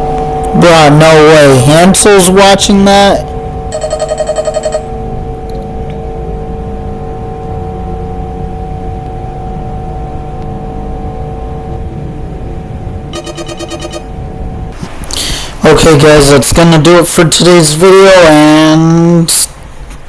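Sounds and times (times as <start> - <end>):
ominous ambient drone: 0.0 - 17.6.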